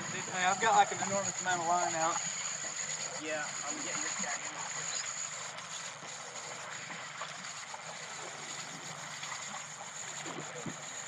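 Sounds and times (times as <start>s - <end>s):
water sloshing against hull: 0.0s - 11.0s.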